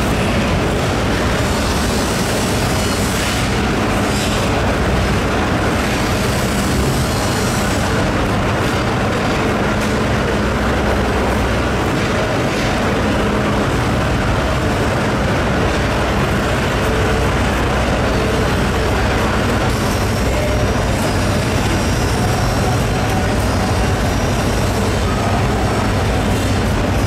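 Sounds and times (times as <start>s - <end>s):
machine drone: 0.0s - 27.0s.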